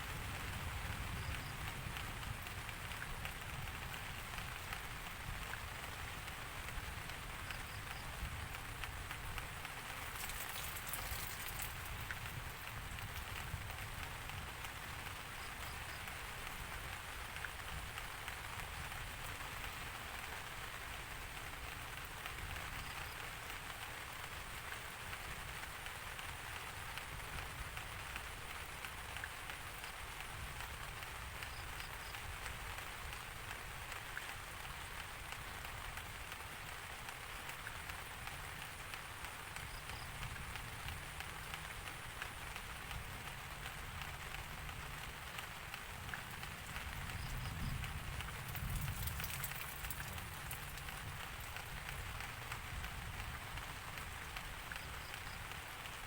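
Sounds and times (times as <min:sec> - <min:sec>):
rain patter on a surface: 0:00.0 - 0:56.0.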